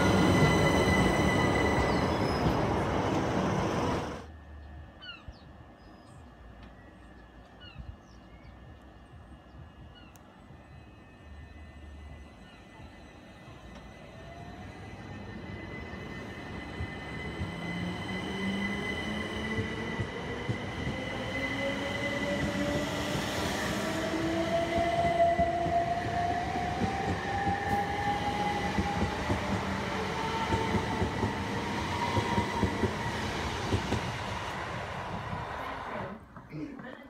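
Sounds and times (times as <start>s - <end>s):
wheels rumbling on rail: 0.0s - 36.6s.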